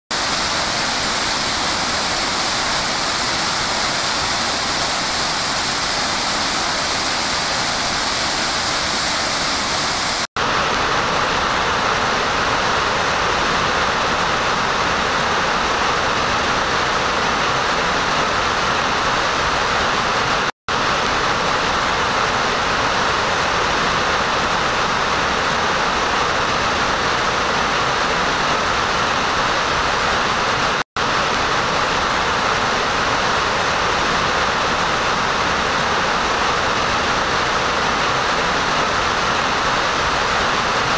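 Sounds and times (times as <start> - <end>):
waterfall rushing: 0.1 - 40.9.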